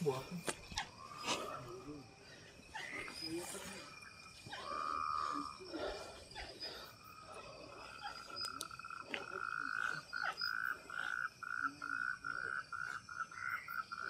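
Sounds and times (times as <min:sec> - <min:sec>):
night animal calling: 0:00.0 - 0:14.0.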